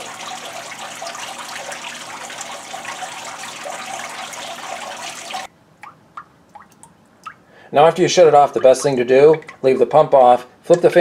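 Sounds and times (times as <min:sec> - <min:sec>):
faint water drips: 0:00.0 - 0:11.0
water trickling down cooler pad: 0:00.0 - 0:11.0.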